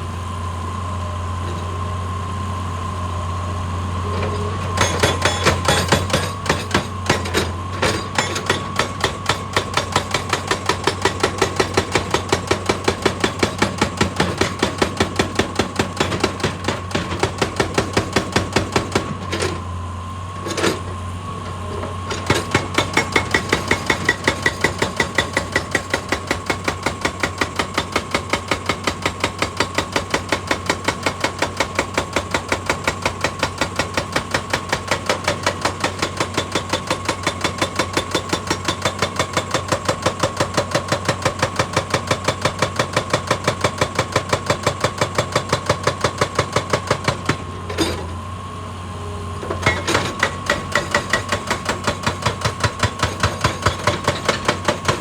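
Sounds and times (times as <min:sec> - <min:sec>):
hydraulic breaker hammering rock: 0:04.1 - 0:19.7, 0:20.4 - 0:48.2, 0:49.4 - 0:55.0.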